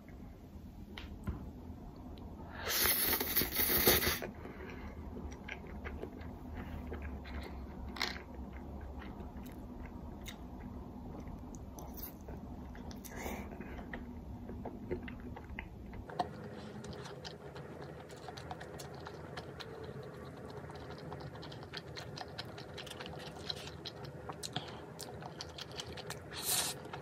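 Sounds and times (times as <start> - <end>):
chewing with small clicks: 4.5 - 27.0.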